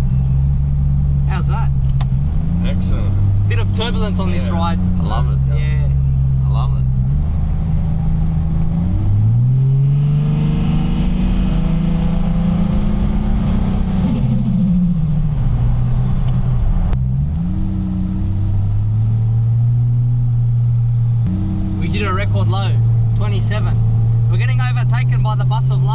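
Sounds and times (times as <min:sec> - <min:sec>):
car engine under load: 0:00.0 - 0:25.9.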